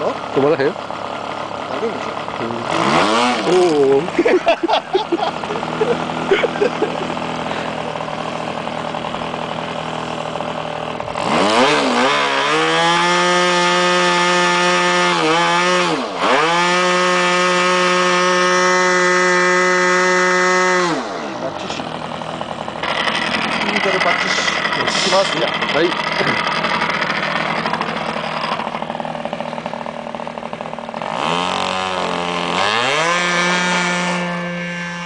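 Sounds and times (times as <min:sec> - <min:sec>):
model engine buzzing: 0:00.0 - 0:35.0.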